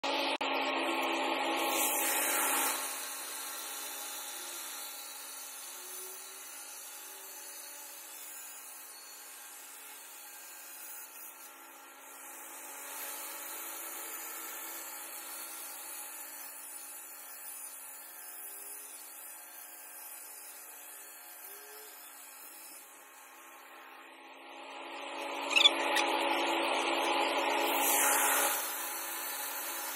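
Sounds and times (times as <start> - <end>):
angle grinder cutting stone: 0.4 - 29.9.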